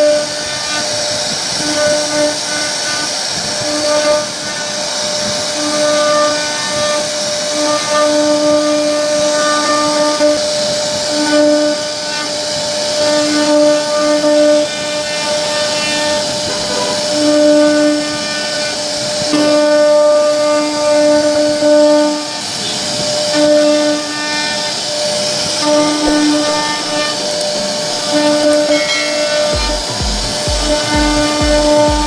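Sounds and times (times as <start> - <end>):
router spindle cutting wood: 0.0 - 32.0.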